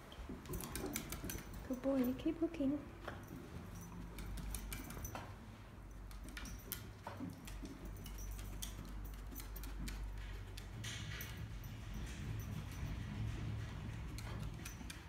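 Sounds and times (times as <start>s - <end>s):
dog claws clicking on wooden floor: 0.3s - 1.8s, 3.2s - 15.0s.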